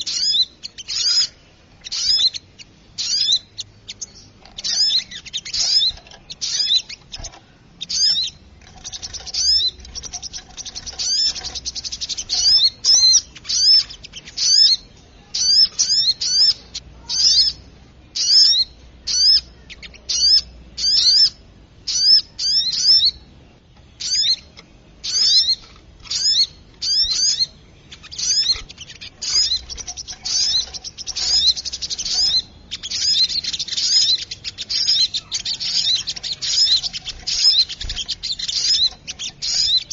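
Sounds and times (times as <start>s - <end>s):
bird high-pitched chirps: 0.0s - 39.9s.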